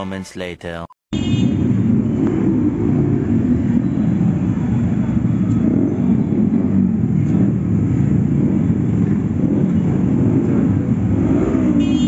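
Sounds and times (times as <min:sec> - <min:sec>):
motorcycle engines revving: 0:01.2 - 0:12.0.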